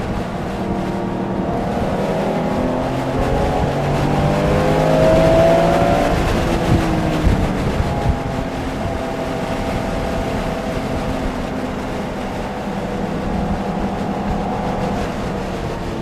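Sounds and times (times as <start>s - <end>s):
car engine at speed: 0.0s - 16.0s
road and wind noise: 0.0s - 16.0s.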